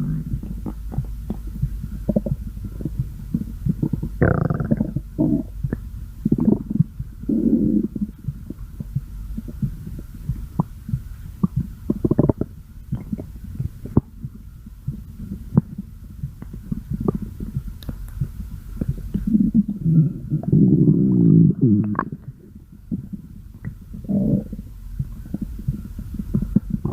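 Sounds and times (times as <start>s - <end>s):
stomach growling: 0.0s - 26.9s.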